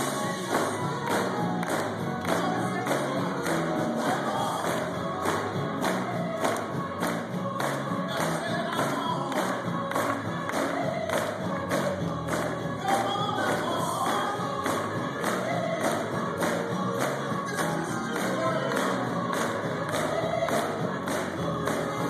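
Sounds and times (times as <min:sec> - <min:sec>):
band accompaniment: 0:00.0 - 0:22.0
gospel choir singing: 0:00.0 - 0:22.0
steady percussion beat: 0:00.0 - 0:22.0.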